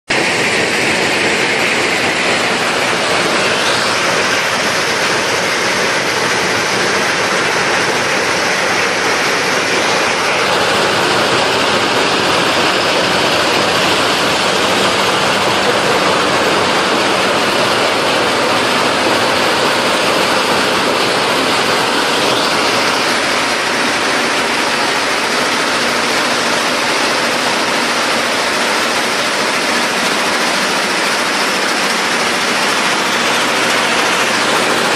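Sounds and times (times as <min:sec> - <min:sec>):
stone crusher machinery: 0:00.1 - 0:34.9.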